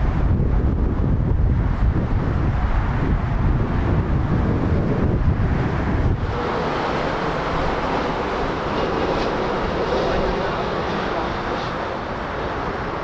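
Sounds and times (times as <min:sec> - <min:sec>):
jet engine rumble: 0:00.0 - 0:13.0
wind buffeting microphone: 0:00.0 - 0:13.0.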